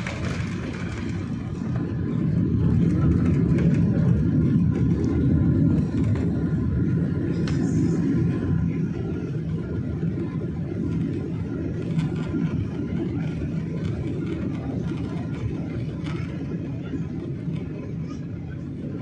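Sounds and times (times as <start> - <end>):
airliner engine noise: 0.0 - 19.0
wheels rumbling on runway: 0.0 - 19.0.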